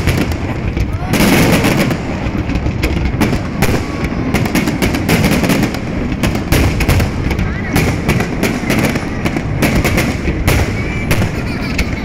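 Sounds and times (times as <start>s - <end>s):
fireworks bangs and crackling: 0.0s - 12.0s
heavy firework bang: 0.0s - 12.0s.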